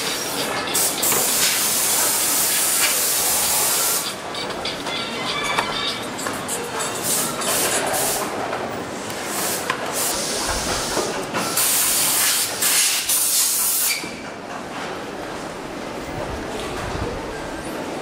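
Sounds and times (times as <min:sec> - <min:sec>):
factory workshop noise: 0:00.0 - 0:18.0.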